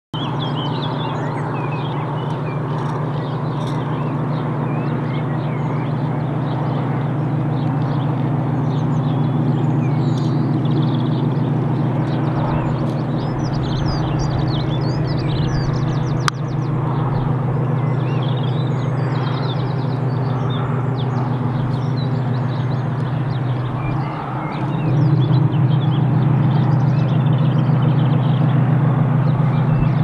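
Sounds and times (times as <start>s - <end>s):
birds chirping: 0.1s - 30.0s
distant locomotive engine drone: 0.2s - 30.0s.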